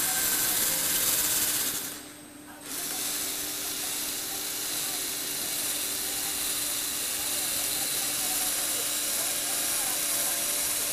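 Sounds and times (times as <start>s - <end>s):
toy gear drive whirring: 0.0s - 10.9s.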